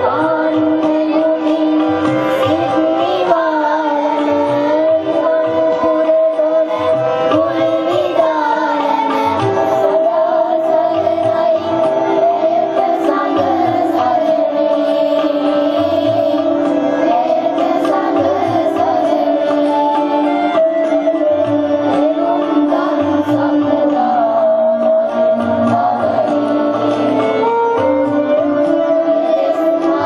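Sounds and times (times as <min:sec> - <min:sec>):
children's choir singing: 0:00.0 - 0:30.0.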